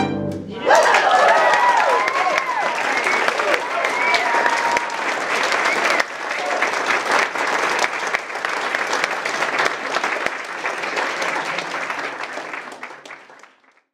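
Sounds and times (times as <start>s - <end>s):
audience applauding: 0.6s - 13.9s.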